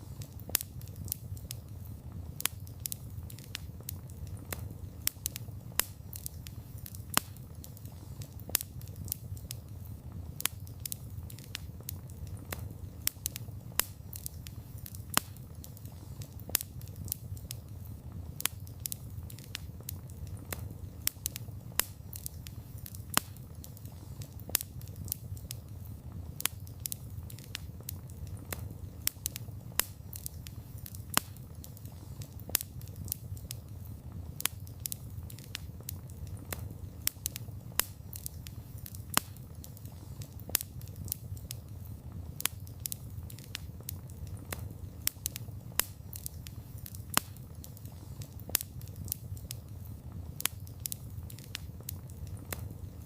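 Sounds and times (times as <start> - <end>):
burning wood crackling and popping: 0.0 - 53.0
campfire flames rumbling: 0.0 - 53.0.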